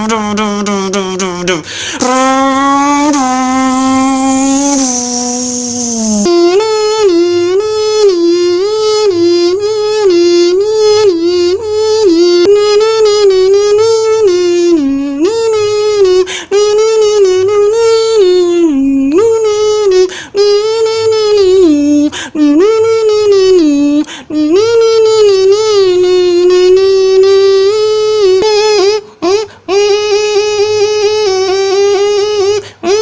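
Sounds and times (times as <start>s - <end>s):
pitched vocal tone tune: 0.0s - 33.0s.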